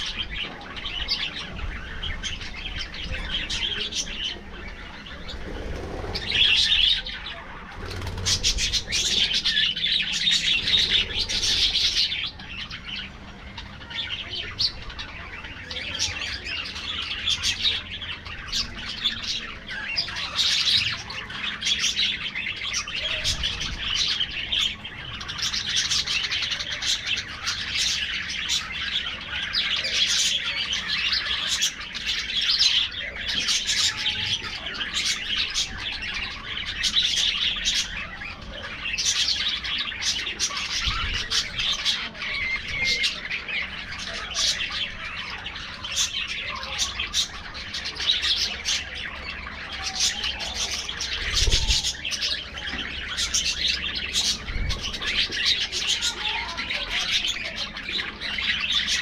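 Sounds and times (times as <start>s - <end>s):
flock of budgerigars chattering: 0.0s - 59.0s.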